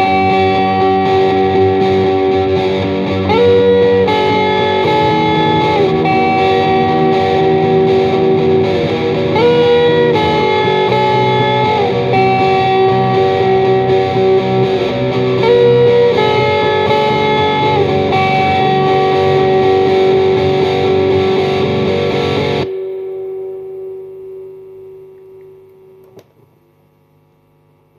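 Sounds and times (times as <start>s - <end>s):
guitar lead with sliding notes: 0.0s - 26.2s
distorted electric guitar riff: 0.0s - 26.3s.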